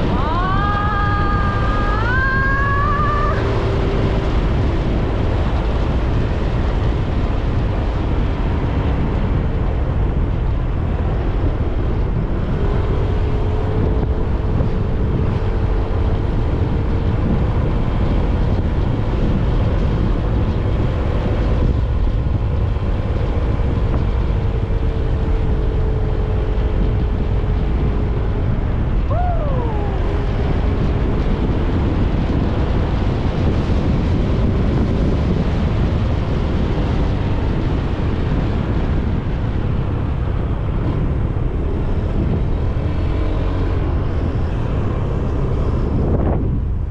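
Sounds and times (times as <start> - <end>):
motor scooter engine hum: 0.0 - 46.9
wind buffeting microphone: 0.0 - 46.9.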